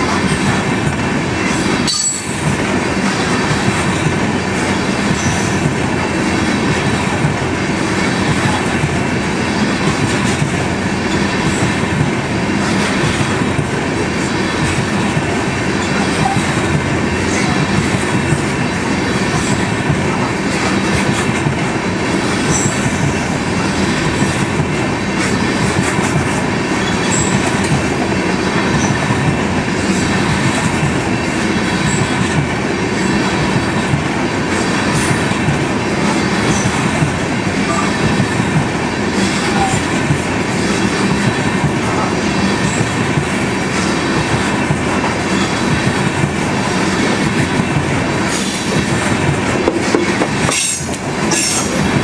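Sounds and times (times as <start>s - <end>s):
steel wheels running on rails: 0.0s - 52.0s.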